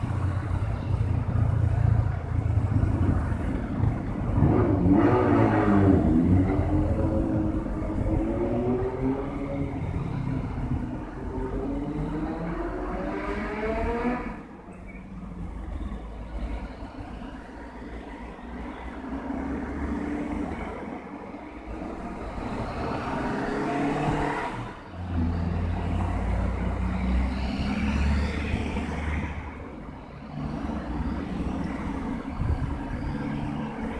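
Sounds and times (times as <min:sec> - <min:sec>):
cars driving past accelerating: 0:02.4 - 0:17.2, 0:18.5 - 0:33.9.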